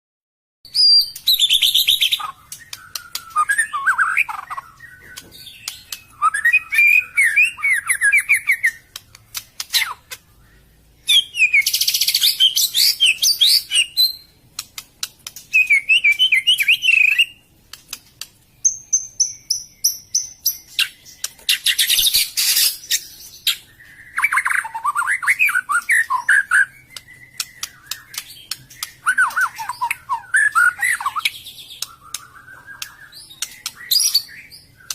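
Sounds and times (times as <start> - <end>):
bird singing whistled phrases: 0.7 - 9.0, 9.7 - 14.4, 15.5 - 17.4, 18.6 - 34.9.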